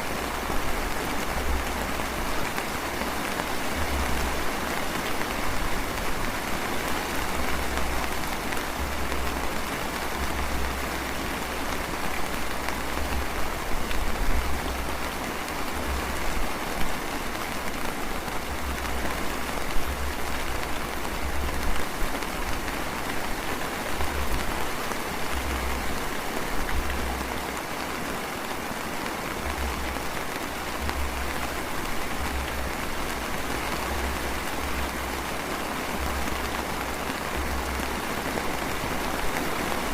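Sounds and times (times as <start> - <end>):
light rain pattering: 0.0 - 39.9.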